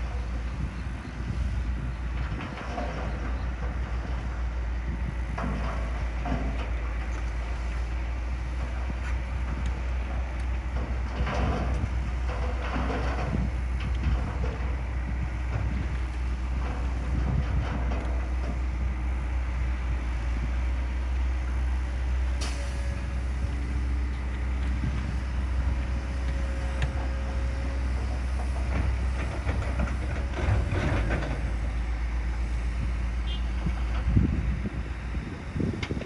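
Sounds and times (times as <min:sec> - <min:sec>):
diesel machinery low rumble: 0:00.0 - 0:36.0.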